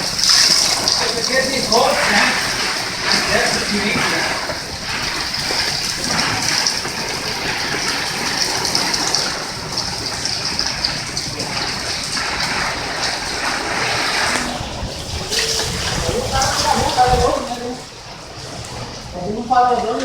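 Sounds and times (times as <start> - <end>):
hail and heavy rain falling: 0.0 - 20.0.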